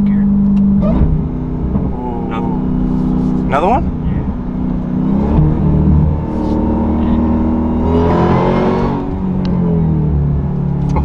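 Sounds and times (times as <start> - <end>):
car engine with loud exhaust: 0.0 - 11.0
exhaust burbles: 0.0 - 11.0.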